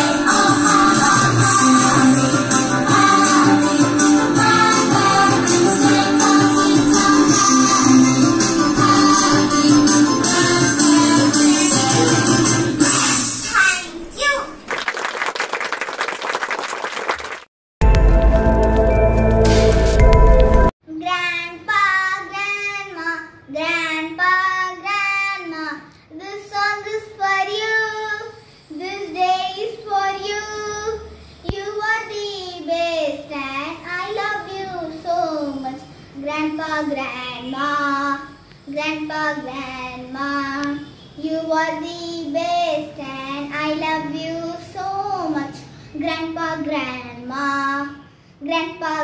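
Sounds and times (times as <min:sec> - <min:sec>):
girl singing: 0:00.0 - 0:14.2, 0:20.9 - 0:49.0.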